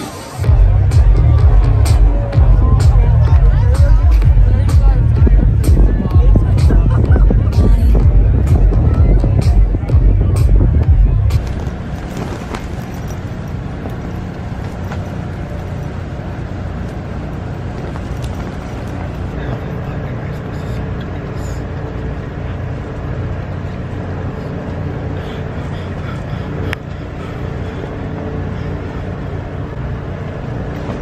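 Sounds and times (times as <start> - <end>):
wind buffeting tent and microphone: 0.4 - 31.0.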